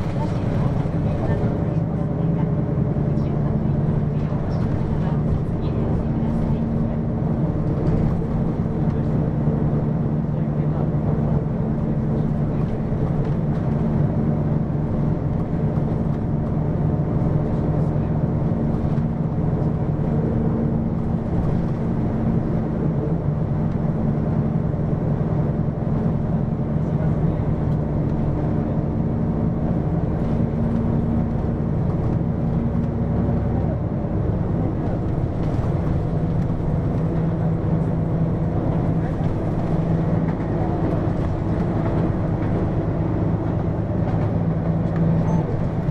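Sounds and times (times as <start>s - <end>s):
bus engine droning: 0.0s - 45.9s.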